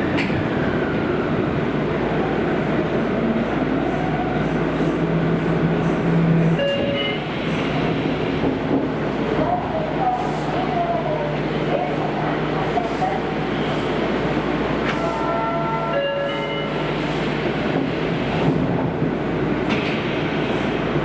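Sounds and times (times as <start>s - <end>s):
subway train rumbling in tunnel: 0.0s - 21.0s.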